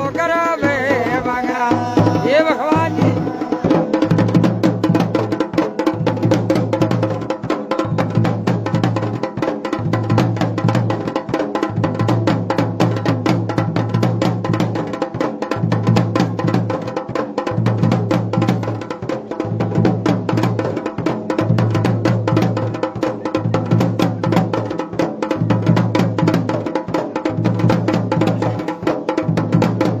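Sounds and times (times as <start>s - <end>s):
drums playing fast folk rhythm: 0.0s - 30.0s.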